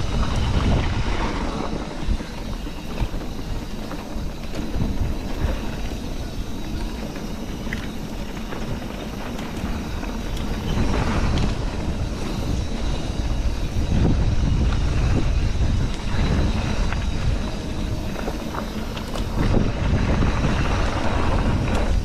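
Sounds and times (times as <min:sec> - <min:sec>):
bike tyres on dirt trail: 0:00.0 - 0:22.0
wind rumbling on microphone: 0:00.0 - 0:22.0.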